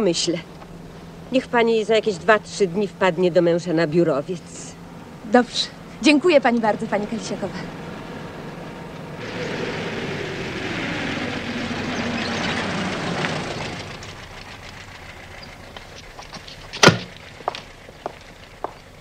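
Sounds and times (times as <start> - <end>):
car engine slowing down: 0.0 - 19.0.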